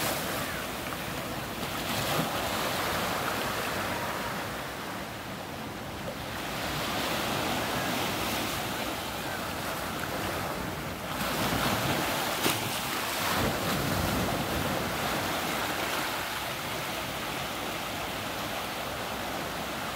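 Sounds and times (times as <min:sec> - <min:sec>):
waves washing over rocks: 0:00.0 - 0:05.2, 0:06.2 - 0:19.9.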